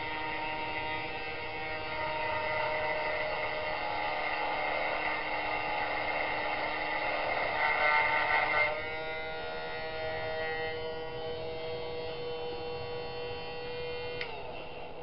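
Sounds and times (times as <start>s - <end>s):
electric motor whine: 0.0s - 15.0s
engraving cutter noise: 0.0s - 15.0s.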